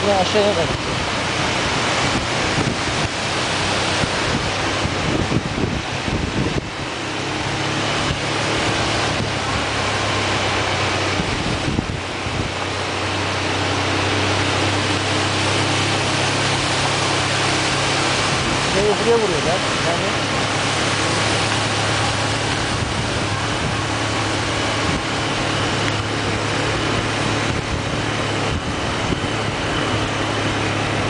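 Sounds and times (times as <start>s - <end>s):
waterfall roaring: 0.0s - 31.0s
wind buffeting microphone: 0.6s - 31.0s.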